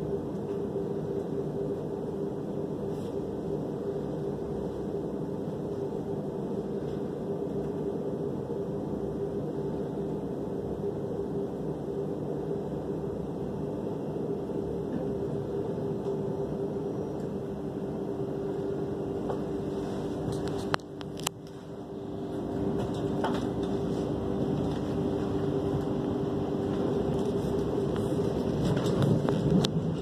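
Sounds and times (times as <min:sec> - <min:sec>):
train rumbling with low hum: 0:00.0 - 0:30.0.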